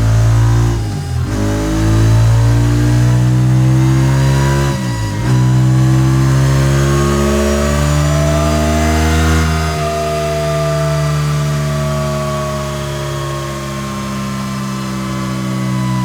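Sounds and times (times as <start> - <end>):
motorcycle engine revving on dyno: 0.0 - 16.0.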